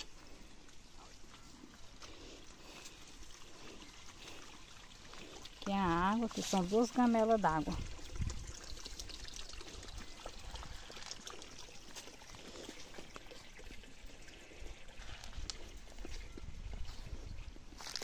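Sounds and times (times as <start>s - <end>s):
water trickling into trough: 0.0s - 17.9s.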